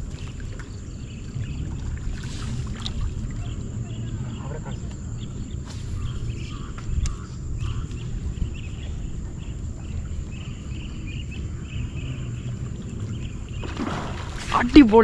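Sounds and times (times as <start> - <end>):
low rumble: 0.0 - 14.8
insect drone: 0.0 - 15.0.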